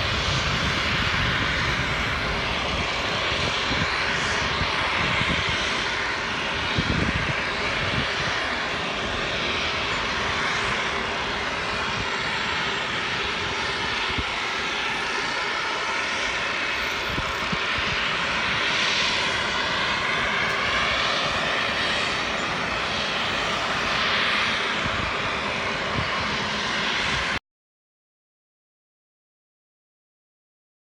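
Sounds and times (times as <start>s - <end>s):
jet engines at takeoff thrust: 0.0s - 27.4s.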